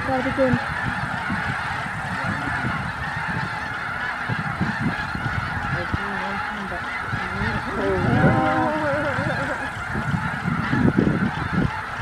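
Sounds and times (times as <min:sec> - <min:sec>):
flock of geese honking: 0:00.0 - 0:12.0.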